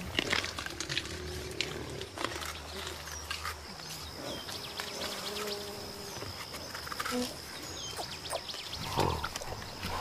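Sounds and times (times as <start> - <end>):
birds chirping: 1.3 - 10.0.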